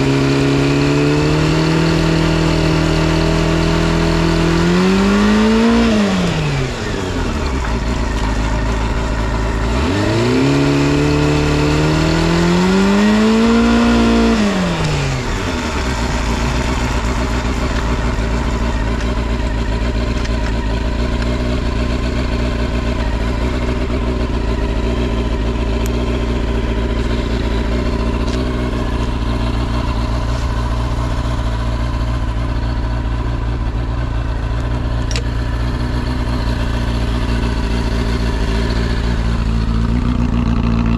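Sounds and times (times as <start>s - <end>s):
motorcycle engine revving and idling: 0.0s - 40.9s.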